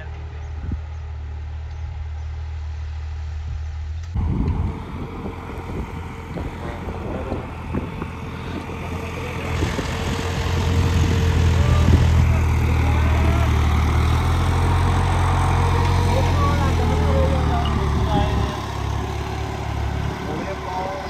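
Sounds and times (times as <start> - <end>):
engine knocking and rattling: 0.0 - 21.0
tractor diesel engine running: 0.0 - 21.0.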